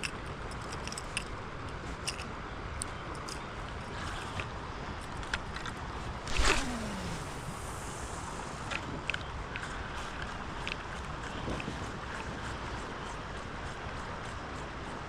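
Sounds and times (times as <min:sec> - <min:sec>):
water around a kayak: 0:00.0 - 0:15.0
wind: 0:00.0 - 0:15.0.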